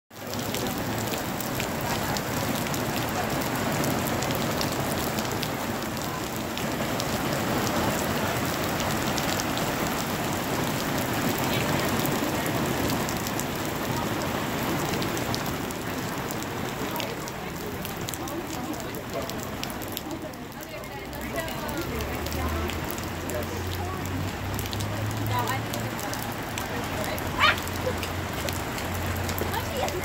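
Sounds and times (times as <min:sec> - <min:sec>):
raindrops ticking nearby: 0:00.1 - 0:30.0
heavy rain hissing: 0:00.2 - 0:30.0.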